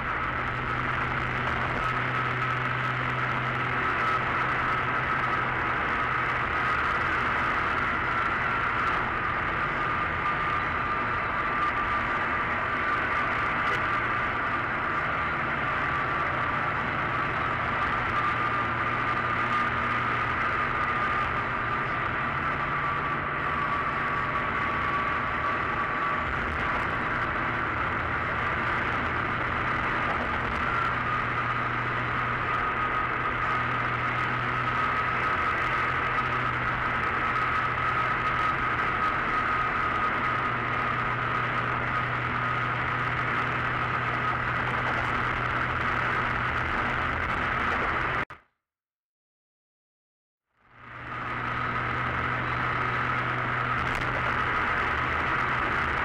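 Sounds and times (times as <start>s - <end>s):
low hum: 0.0s - 48.2s
car road noise at highway speed: 0.0s - 48.4s, 50.4s - 56.0s.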